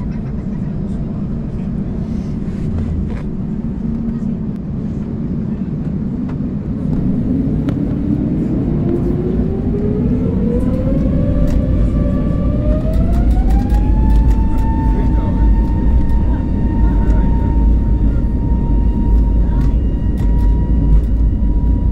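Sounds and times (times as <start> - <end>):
jet engines spooling up: 0.4 - 21.9.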